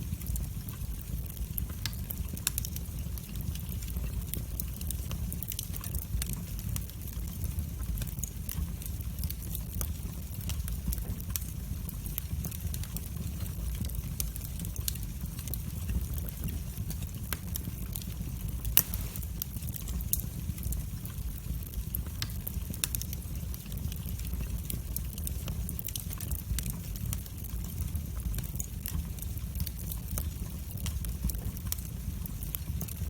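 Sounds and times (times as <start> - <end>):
fire crackling in fireplace: 0.0 - 33.0.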